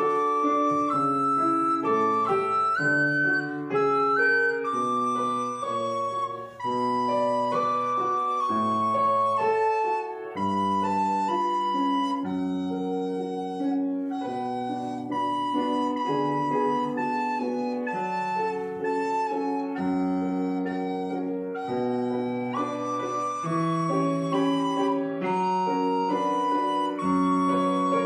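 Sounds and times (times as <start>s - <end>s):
piano chords: 0.0s - 28.0s
recorder melody: 0.0s - 28.0s.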